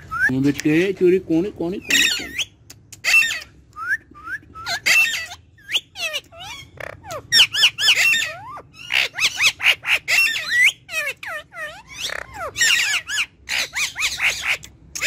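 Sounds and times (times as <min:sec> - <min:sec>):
parakeet squawks: 0:01.8 - 0:03.6, 0:04.6 - 0:15.0.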